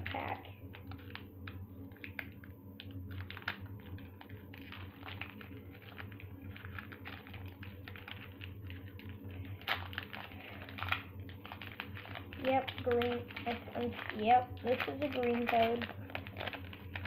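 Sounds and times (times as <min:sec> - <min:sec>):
card pack crackling and rustling: 0:00.0 - 0:17.0
steady low hum: 0:00.0 - 0:17.0.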